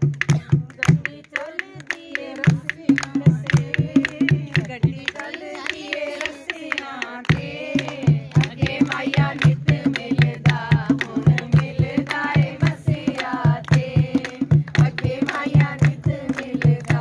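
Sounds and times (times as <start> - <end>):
hand clapping: 0.0 - 17.0
hand drum beat: 0.0 - 17.0
women singing together: 0.2 - 17.0.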